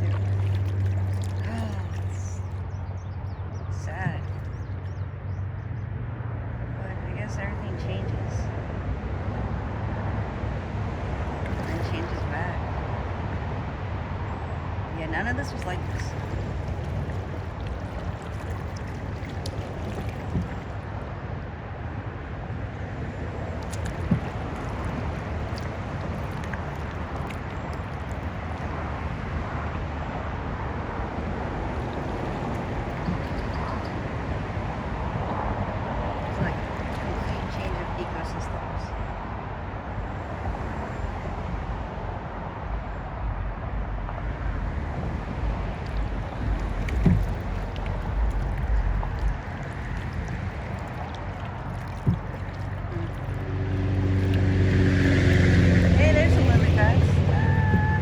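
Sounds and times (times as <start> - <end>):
water around a kayak: 0.0 - 58.0
wind rumble on microphone: 0.0 - 58.0.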